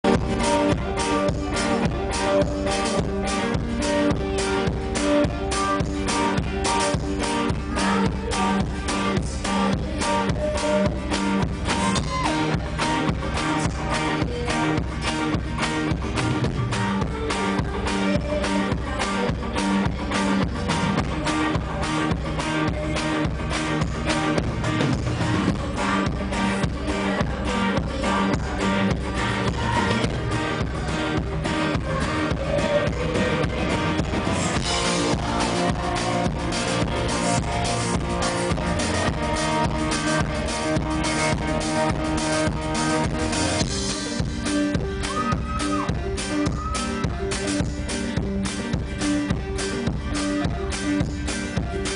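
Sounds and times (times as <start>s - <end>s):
woman singing: 0.1s - 47.7s.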